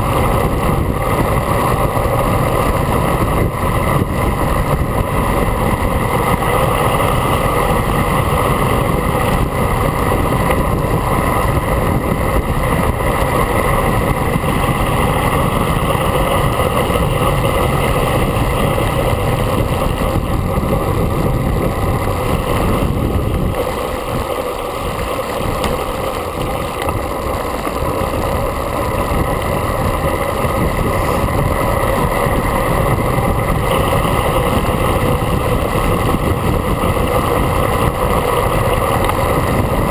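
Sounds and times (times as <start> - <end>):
wind rushing over camera: 0.0 - 39.9.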